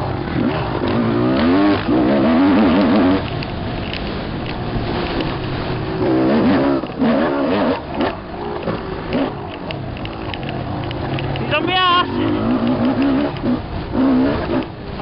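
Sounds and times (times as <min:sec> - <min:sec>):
dirt bike engine revving: 0:00.0 - 0:15.0
wind buffeting microphone: 0:00.0 - 0:15.0.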